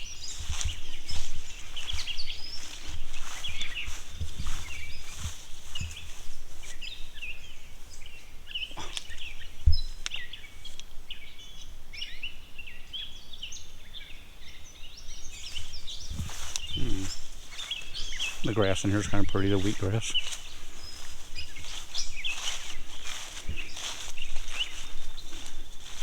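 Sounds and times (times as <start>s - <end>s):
birds singing and chirping: 0.0s - 26.0s.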